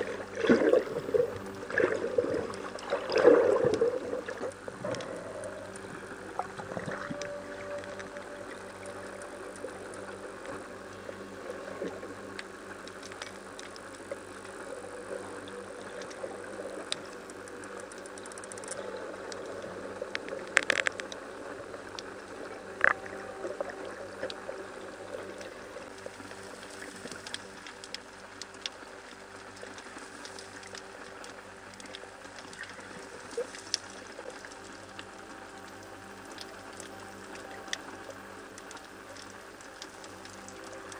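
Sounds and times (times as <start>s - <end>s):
faint low hum: 0.0s - 40.9s
small clicks and crackles: 0.0s - 40.9s.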